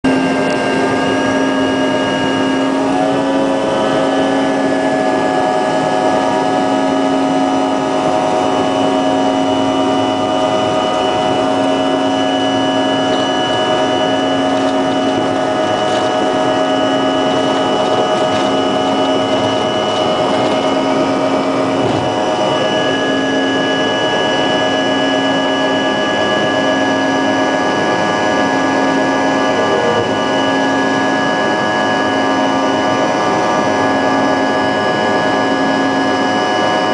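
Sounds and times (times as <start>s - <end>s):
jet engines whining: 0.0s - 36.9s
constant rush: 0.1s - 35.5s.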